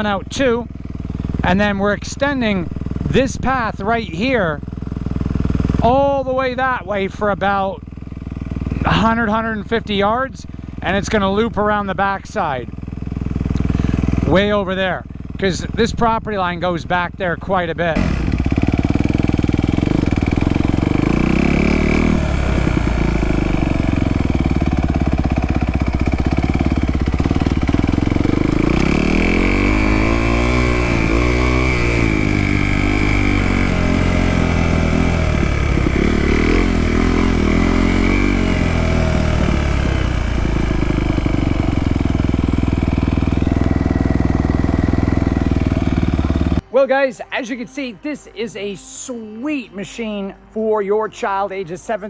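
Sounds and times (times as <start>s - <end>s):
dirt bike engine revving: 0.0s - 46.7s.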